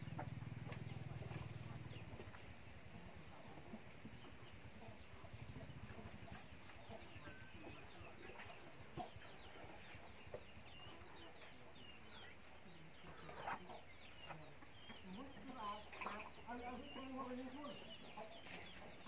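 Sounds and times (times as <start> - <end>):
chickens clucking faintly: 0.0 - 19.0.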